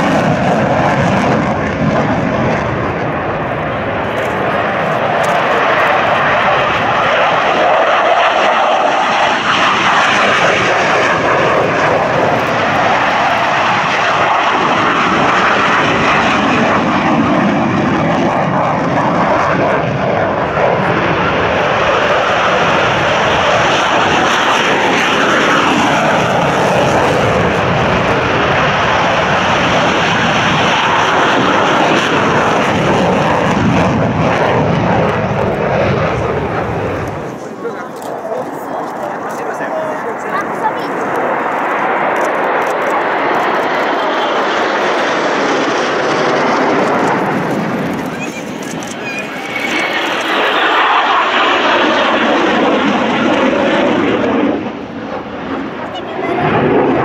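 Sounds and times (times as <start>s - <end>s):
jet noise at takeoff: 0.0s - 57.0s.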